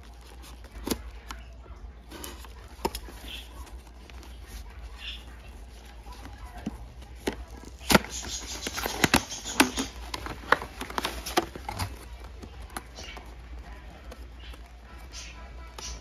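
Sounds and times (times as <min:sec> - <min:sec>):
cardboard box being opened: 0:00.0 - 0:16.0
plastic package crinkling: 0:00.0 - 0:16.0.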